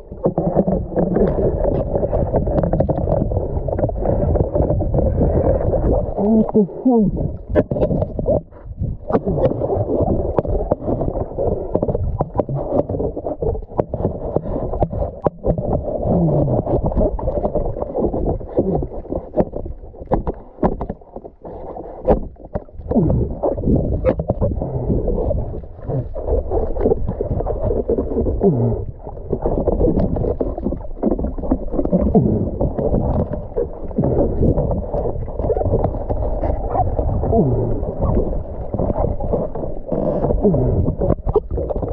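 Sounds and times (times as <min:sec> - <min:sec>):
underwater rushing water: 0:00.0 - 0:41.9.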